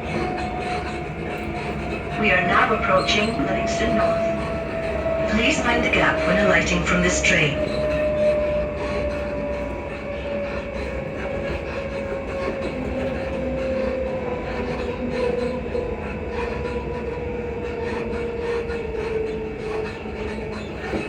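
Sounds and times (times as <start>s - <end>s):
train motor whine: 0.0s - 21.0s
train rumbling on rails: 0.0s - 21.0s.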